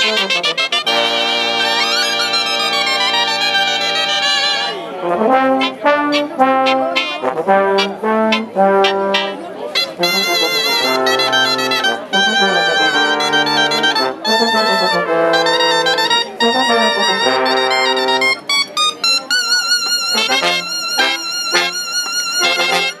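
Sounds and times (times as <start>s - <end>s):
wind band playing dance music: 0.0s - 23.0s.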